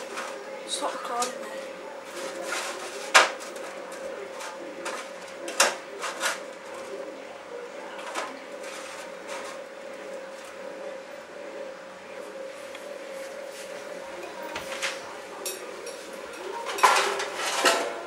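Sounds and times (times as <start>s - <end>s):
faint hum: 0.0s - 17.2s.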